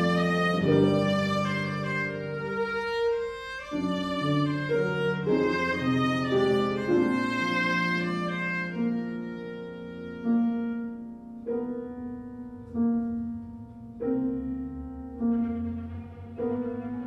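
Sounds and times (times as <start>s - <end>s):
viola bowed slow melody: 0.0s - 17.0s.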